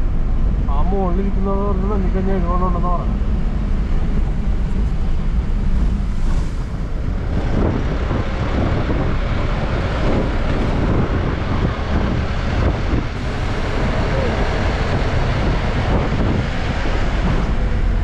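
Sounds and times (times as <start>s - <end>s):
truck engine and road rumble: 0.0s - 18.0s
wind noise: 0.0s - 18.0s.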